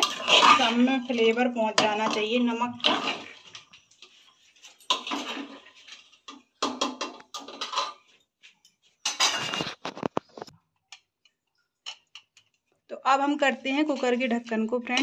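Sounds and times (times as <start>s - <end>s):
spoon stirring and scraping peas: 0.0s - 15.0s.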